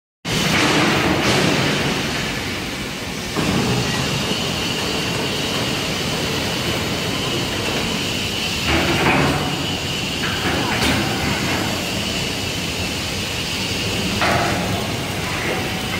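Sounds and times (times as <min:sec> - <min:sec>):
machinery rumble: 0:00.3 - 0:15.9.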